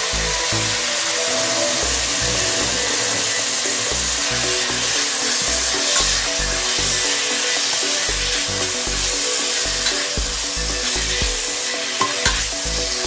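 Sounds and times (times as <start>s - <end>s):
background music with bass beat: 0.0s - 13.0s
meat sizzling in a pot: 2.5s - 13.0s.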